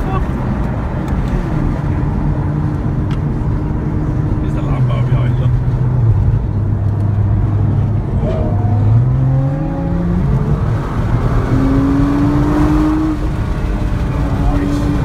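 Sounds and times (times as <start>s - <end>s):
car engine inside cabin: 0.0s - 15.0s
road noise: 0.0s - 15.0s.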